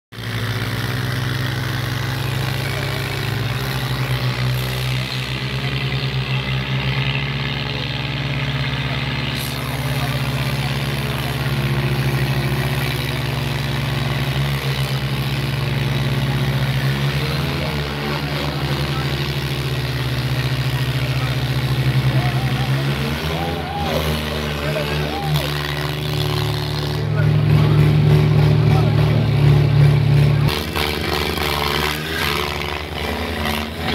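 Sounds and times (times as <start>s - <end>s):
tractor engines straining: 0.1s - 33.9s.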